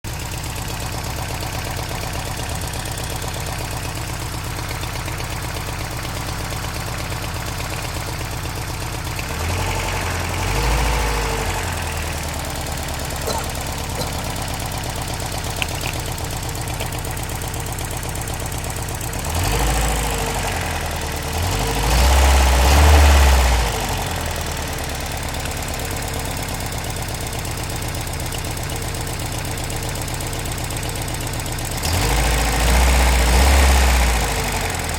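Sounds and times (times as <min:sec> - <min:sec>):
rattling engine idling and revving: 0:00.1 - 0:34.9.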